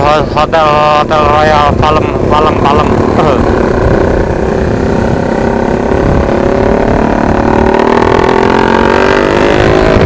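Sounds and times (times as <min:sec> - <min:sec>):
motorcycle engine accelerating: 0:00.0 - 0:10.0
wind rumble on microphone: 0:00.0 - 0:10.0.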